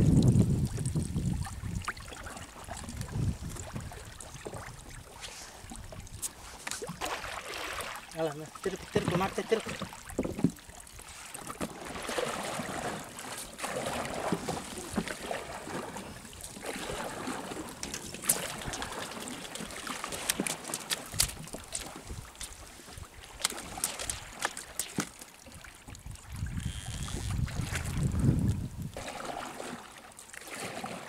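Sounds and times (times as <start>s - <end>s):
water lapping around boat: 0.0s - 31.0s.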